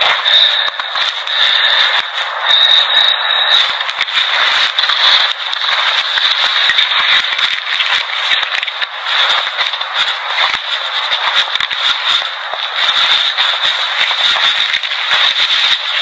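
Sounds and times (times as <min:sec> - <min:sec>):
harsh crackling static: 0:00.0 - 0:16.0
high-pitched whine: 0:00.0 - 0:16.0.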